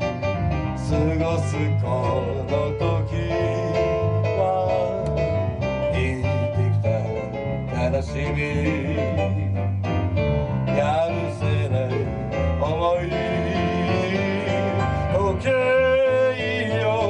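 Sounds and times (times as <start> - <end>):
electric bass: 0.0 - 17.0
keyboard: 0.0 - 17.0
man singing: 0.7 - 10.0, 10.6 - 17.0.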